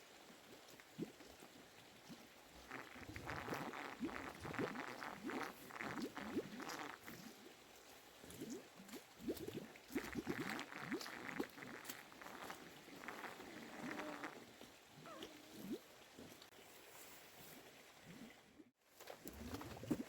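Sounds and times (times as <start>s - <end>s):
gurgling bubbles: 0.0s - 16.8s, 17.4s - 20.0s
water splashing and pouring: 0.0s - 20.0s.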